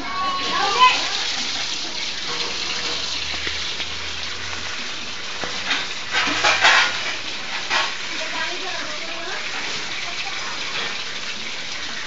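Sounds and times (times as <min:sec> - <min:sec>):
tap water gushing into bucket: 0:00.0 - 0:12.0.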